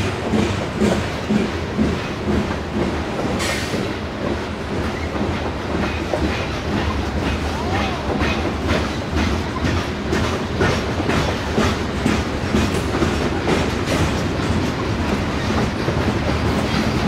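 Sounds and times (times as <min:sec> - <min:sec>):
low train rumble: 0:00.0 - 0:17.0
train wheels clickety-clack: 0:00.0 - 0:17.0.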